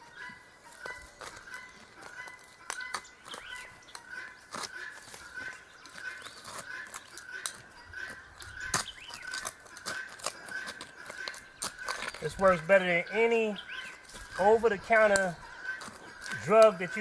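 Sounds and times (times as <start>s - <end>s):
bird chirping: 0.0s - 17.0s
rustling: 0.6s - 17.0s.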